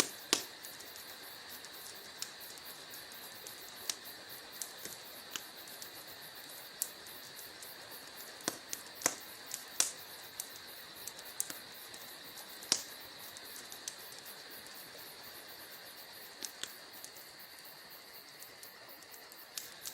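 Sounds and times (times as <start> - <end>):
fire pops and snaps: 0.0 - 19.9
wood fire crackling: 0.0 - 19.9.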